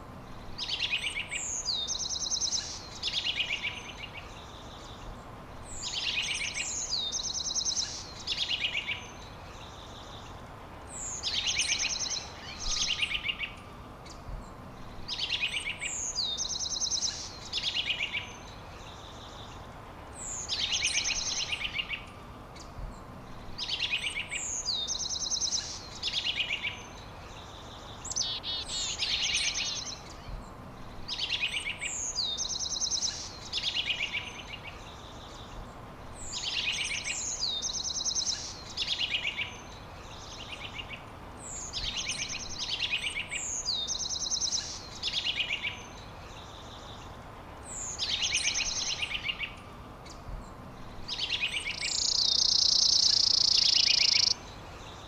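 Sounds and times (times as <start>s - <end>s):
background hiss: 0.0s - 55.0s
songbird singing: 0.0s - 55.0s.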